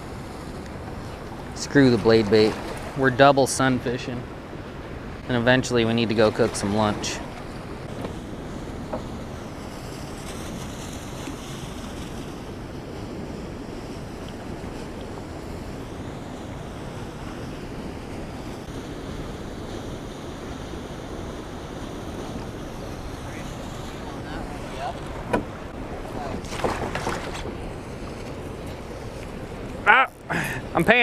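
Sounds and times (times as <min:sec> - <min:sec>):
turbulent water churning: 0:00.0 - 0:31.0
wind on microphone: 0:00.0 - 0:31.0.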